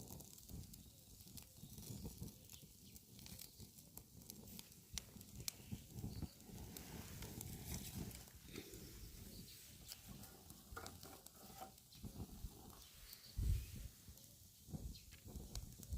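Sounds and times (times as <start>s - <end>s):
campfire crackling and popping: 0.0s - 15.9s.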